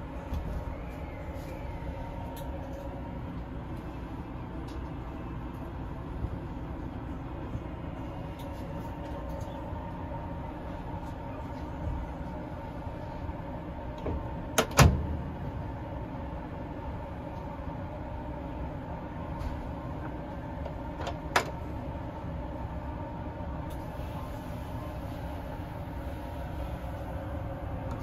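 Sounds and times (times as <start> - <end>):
moving train rumble and hum: 0.0 - 28.0.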